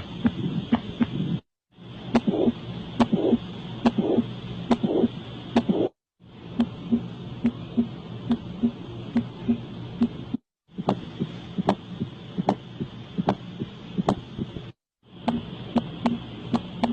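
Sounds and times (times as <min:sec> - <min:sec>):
heartbeat lub-dub: 0:00.0 - 0:01.4, 0:02.1 - 0:06.0, 0:06.6 - 0:16.9.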